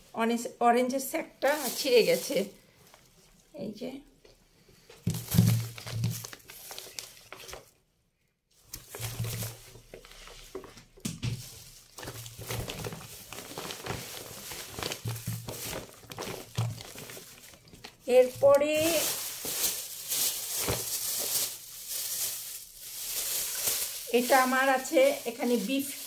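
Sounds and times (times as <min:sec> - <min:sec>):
plastic bags rustling: 0:01.4 - 0:03.5, 0:04.7 - 0:07.8, 0:08.5 - 0:26.0.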